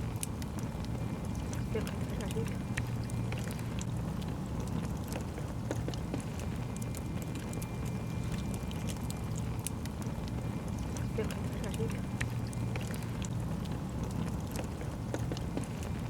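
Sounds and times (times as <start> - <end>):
low fire rumble: 0.0 - 16.0
wood fire crackling: 0.0 - 16.0.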